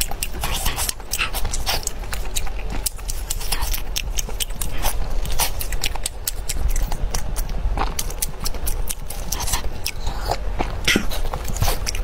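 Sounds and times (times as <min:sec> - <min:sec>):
chewing crunchy fried meat: 0:00.0 - 0:12.0
steady low hum: 0:00.0 - 0:12.0.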